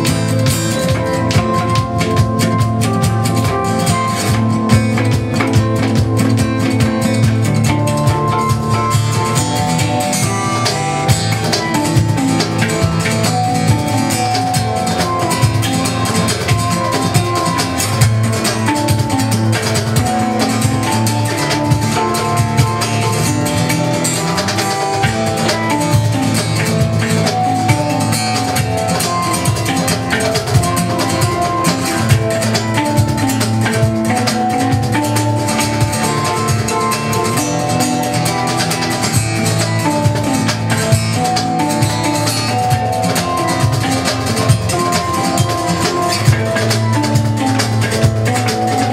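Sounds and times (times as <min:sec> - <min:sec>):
drum kit beat: 0:00.0 - 0:48.9
guitar playing: 0:00.0 - 0:48.9.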